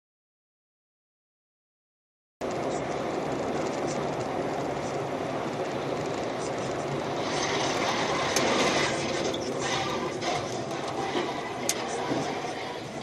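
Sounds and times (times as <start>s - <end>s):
road and wind noise in car: 2.4s - 13.0s.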